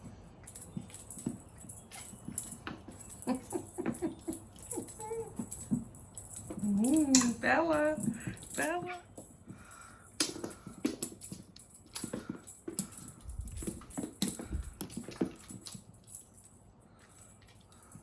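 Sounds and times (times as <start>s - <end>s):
cats scampering and pouncing: 0.0s - 18.0s.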